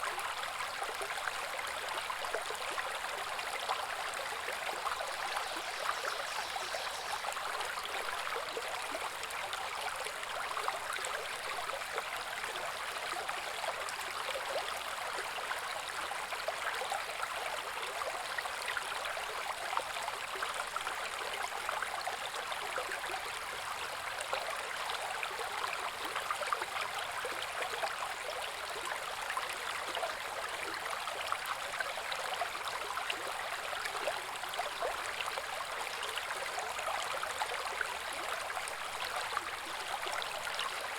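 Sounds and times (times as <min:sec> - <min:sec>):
brook babbling over rocks: 0:00.0 - 0:40.9.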